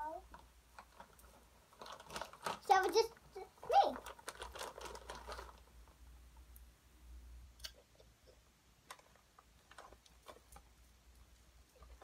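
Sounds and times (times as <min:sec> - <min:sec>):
popcorn crackling while eating: 0:00.0 - 0:06.7, 0:07.5 - 0:12.0
low steady hum: 0:00.0 - 0:12.0.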